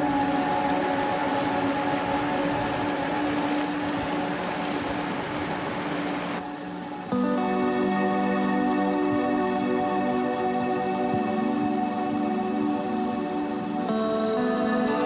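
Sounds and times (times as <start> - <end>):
ambient droning music: 0.0 - 15.0
rain hiss: 0.0 - 15.0.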